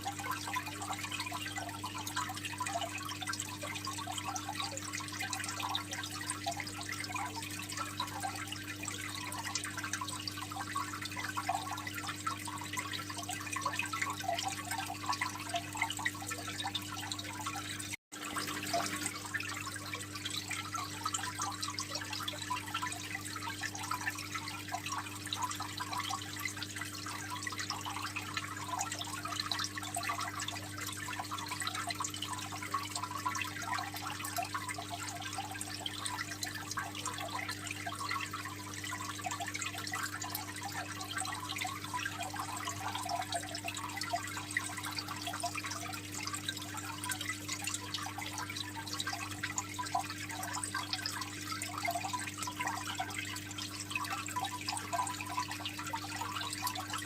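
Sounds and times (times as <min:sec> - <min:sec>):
aquarium water trickling: 0:00.0 - 0:57.0.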